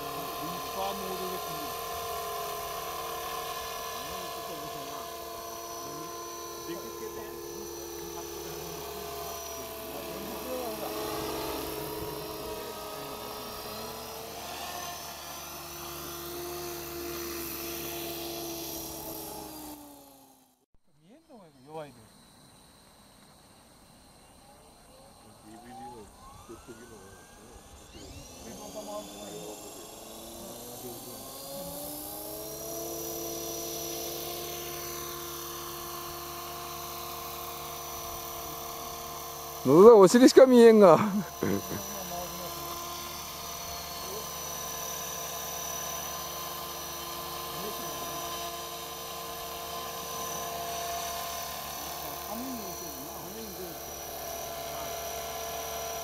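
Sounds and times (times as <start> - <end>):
rc helicopter rotor whine: 0.0 - 56.0.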